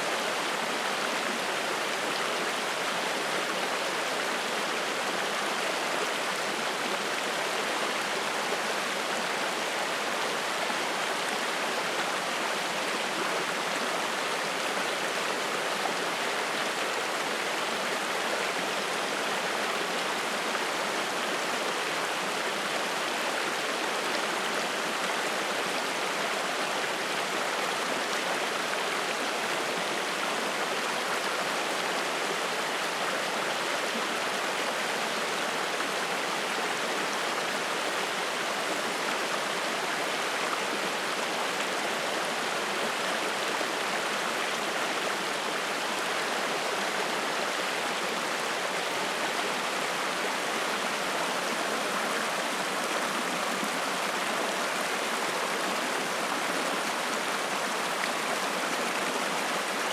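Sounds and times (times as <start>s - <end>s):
stream flowing and splashing: 0.0s - 59.9s.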